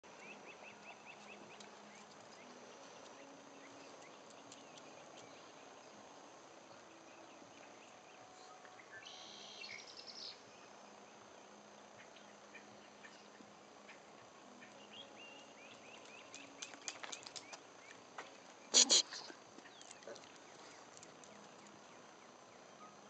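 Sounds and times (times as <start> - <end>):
high insect drone: 0.1 - 23.0.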